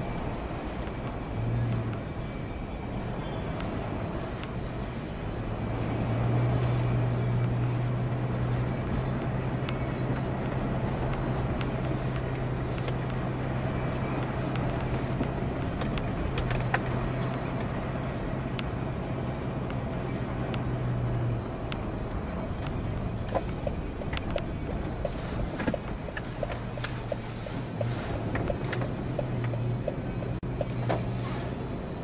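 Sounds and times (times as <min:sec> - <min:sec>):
car engine droning: 0:00.0 - 0:32.0
tyres rolling through mud: 0:00.0 - 0:32.0.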